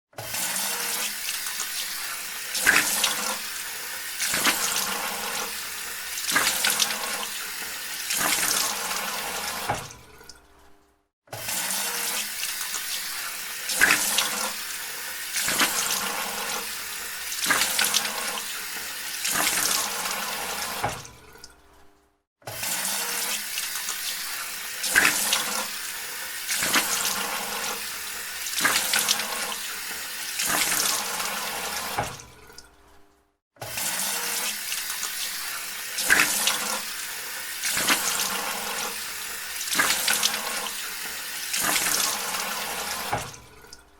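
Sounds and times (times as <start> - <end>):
tap water running into sink: 0.2 - 10.4, 11.3 - 21.6, 22.5 - 32.7, 33.6 - 43.9.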